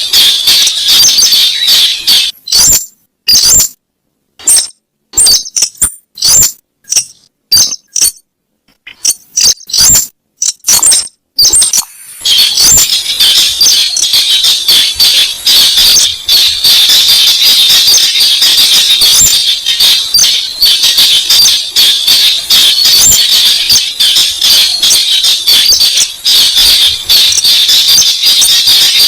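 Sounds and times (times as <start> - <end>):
bird squeaky calls and chattering: 0.0 - 3.8, 4.4 - 8.2, 8.9 - 29.0.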